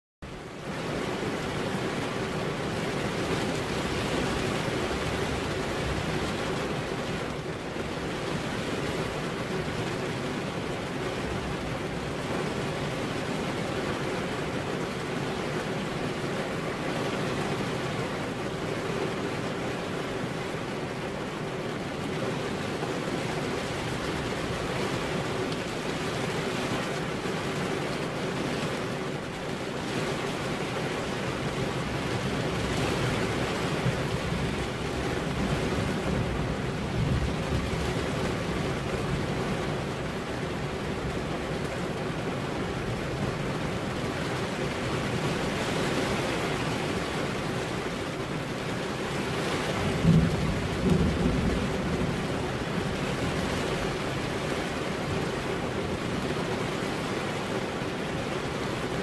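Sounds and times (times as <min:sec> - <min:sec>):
steady rain falling: 0:00.2 - 0:59.0.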